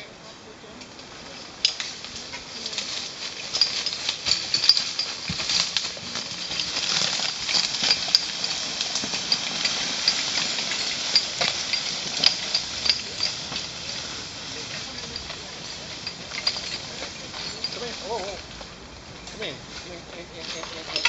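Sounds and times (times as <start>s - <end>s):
crackling leaf litter and twigs: 0.0s - 21.0s.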